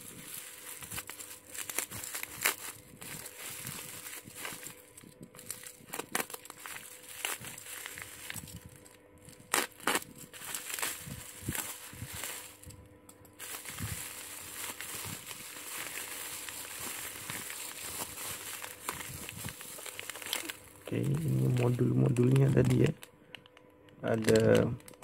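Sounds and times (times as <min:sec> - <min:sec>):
plastic packaging crinkling: 0:00.0 - 0:12.8, 0:13.4 - 0:25.0.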